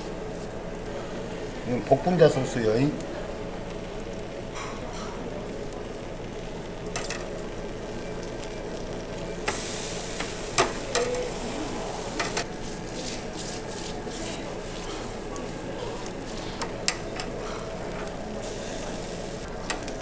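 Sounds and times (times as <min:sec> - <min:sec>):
fish sizzling on a grill: 0:00.0 - 0:20.0.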